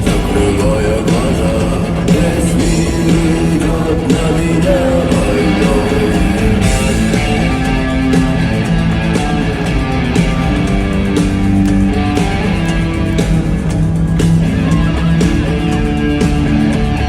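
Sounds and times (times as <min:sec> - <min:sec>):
bass: 0:00.0 - 0:17.0
drums: 0:00.0 - 0:17.0
electric guitar: 0:00.0 - 0:17.0.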